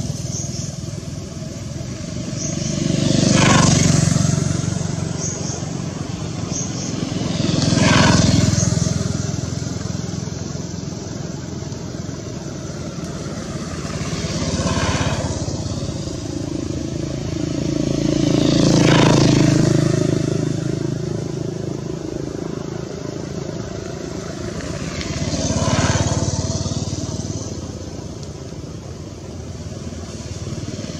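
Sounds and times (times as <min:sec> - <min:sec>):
passing vehicle engines: 0:00.0 - 0:30.9.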